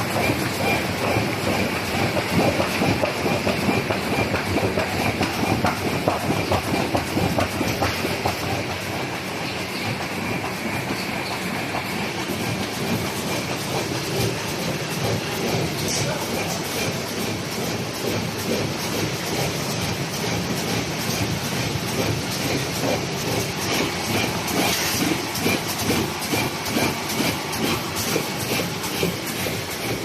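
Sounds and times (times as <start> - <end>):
laminating machine clatter: 0.0 - 30.0.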